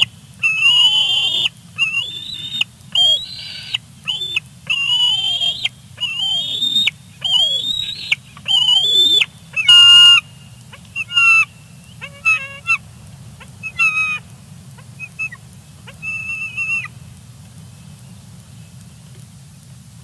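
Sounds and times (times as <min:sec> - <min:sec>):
eagle high whining calls: 0:00.0 - 0:14.2, 0:14.8 - 0:17.0.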